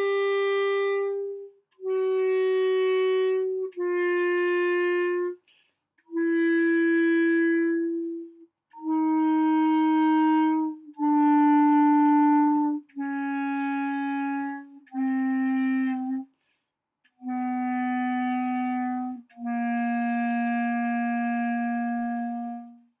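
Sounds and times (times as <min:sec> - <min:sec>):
clarinet playing descending scale: 0:00.0 - 0:05.4, 0:06.1 - 0:16.3, 0:17.2 - 0:22.8.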